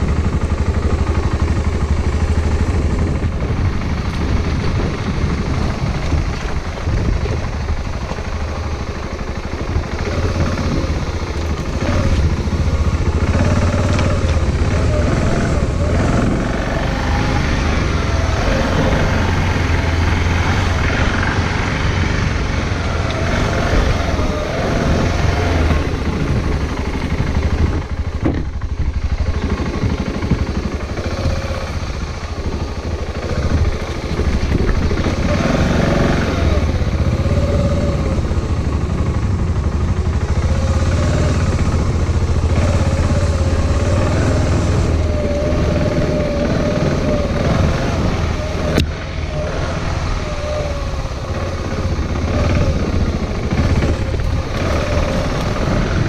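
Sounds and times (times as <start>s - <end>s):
low riding rumble: 0.0s - 56.0s.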